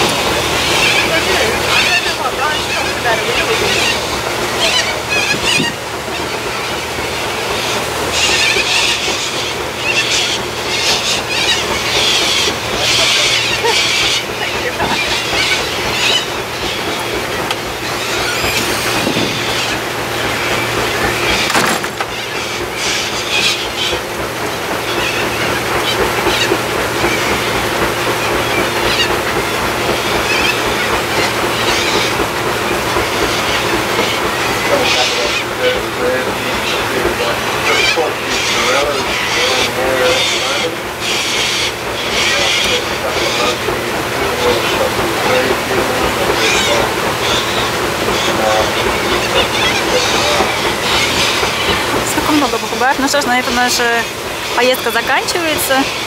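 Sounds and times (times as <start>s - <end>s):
boat engine hum: 0.0s - 56.0s
cockatoos screeching: 0.3s - 27.5s, 28.1s - 56.0s.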